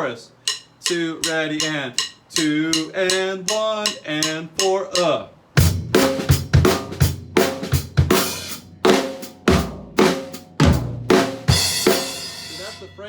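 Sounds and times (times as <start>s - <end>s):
drum kit playing: 0.4s - 13.0s.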